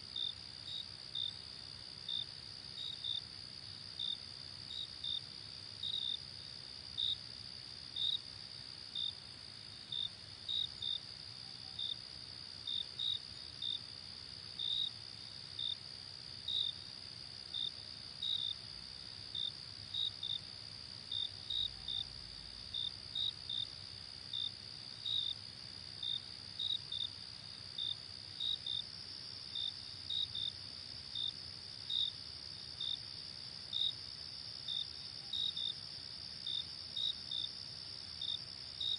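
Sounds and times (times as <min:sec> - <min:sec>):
insect chirps: 0:00.0 - 0:38.9.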